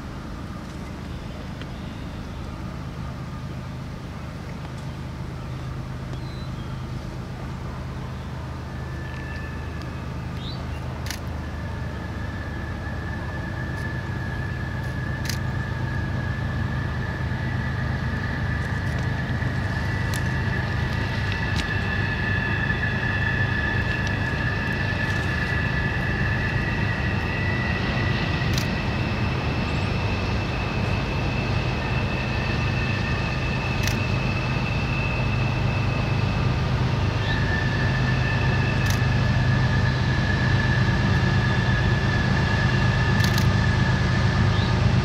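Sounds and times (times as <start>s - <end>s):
diesel locomotive engine drone: 0.0s - 45.0s.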